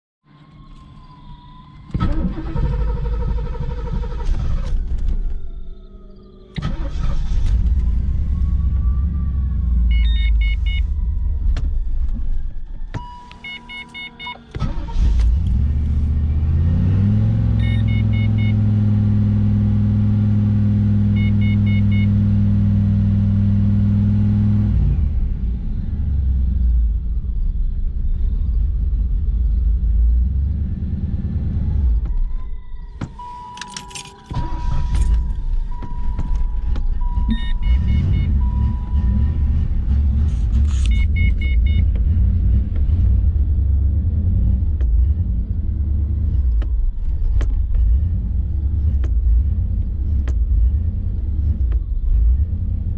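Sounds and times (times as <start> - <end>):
car engine starting and revving: 1.8 - 52.9.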